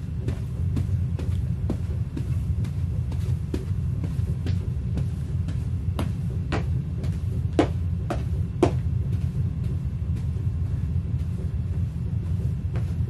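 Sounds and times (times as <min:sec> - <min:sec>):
boots stomping on carpet: 0:00.0 - 0:13.0
low rumble: 0:00.0 - 0:13.0.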